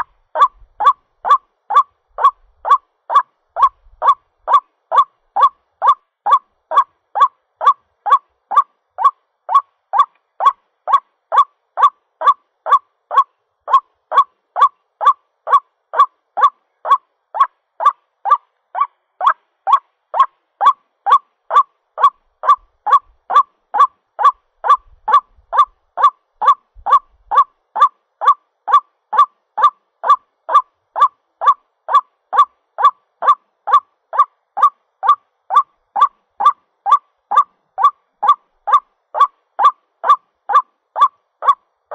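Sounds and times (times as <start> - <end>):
waterhen calling: 0.0 - 41.6.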